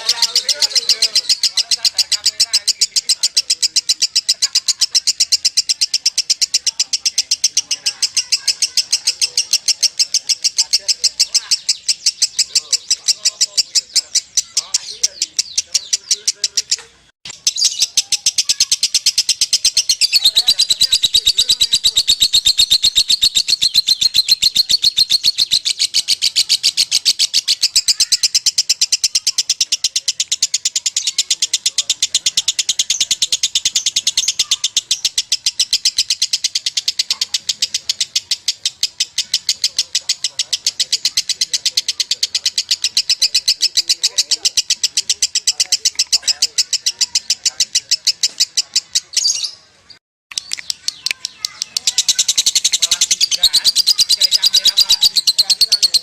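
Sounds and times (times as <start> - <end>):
lovebird chattering: 0.0 - 56.0.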